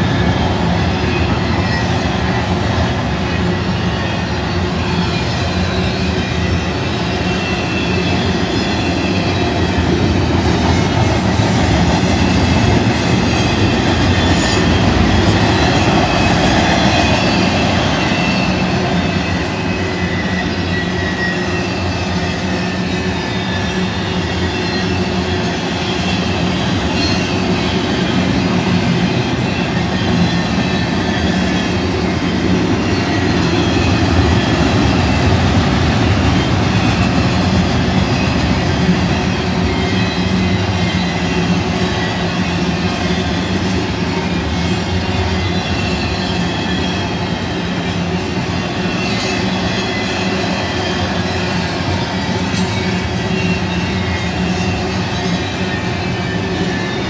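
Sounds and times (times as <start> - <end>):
freight train wheels rumbling: 0.0 - 57.0
high wheel squeals: 0.0 - 57.0.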